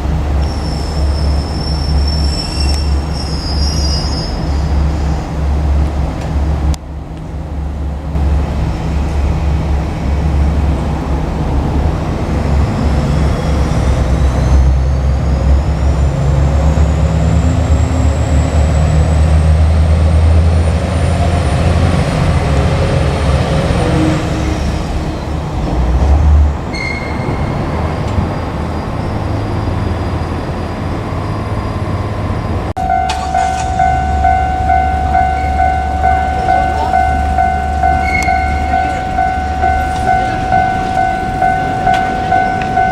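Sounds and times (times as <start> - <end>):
diesel railcar engine rumble: 0.0 - 42.9.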